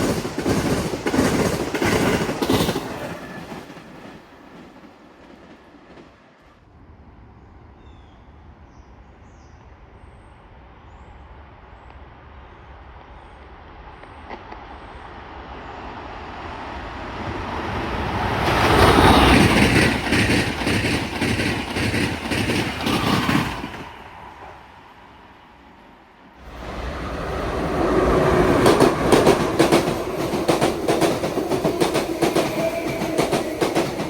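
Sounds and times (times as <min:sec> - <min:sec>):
train passing at speed: 0:00.0 - 0:34.0.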